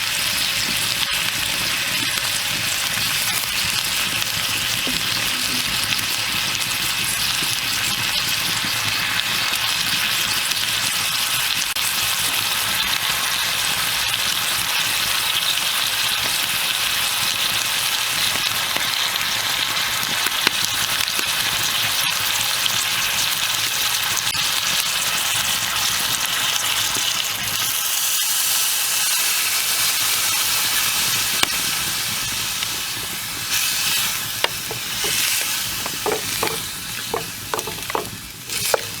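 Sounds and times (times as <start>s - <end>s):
food sizzling in a pan: 0.0s - 39.0s.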